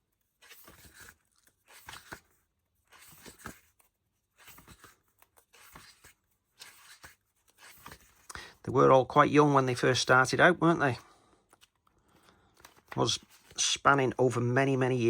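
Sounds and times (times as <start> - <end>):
book pages rustling: 0.0 - 8.8, 9.7 - 15.0.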